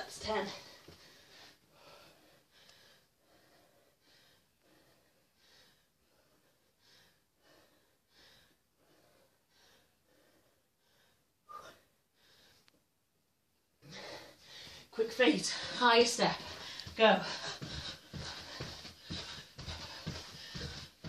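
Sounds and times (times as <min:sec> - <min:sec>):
woman breathing hard: 0:00.3 - 0:12.7, 0:13.8 - 0:21.0.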